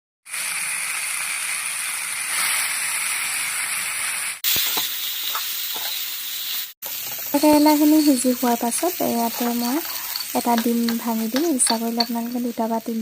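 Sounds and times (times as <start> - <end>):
vegetables sizzling in hot oil: 0.3 - 13.0.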